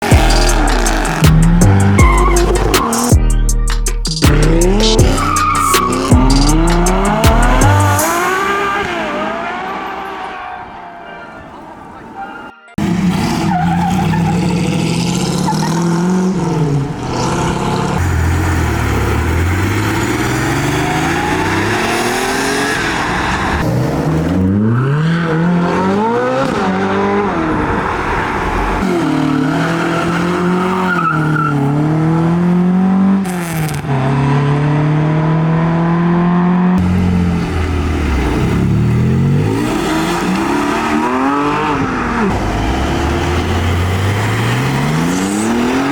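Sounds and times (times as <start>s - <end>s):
car engines revving and accelerating: 0.0s - 3.2s, 4.2s - 45.9s.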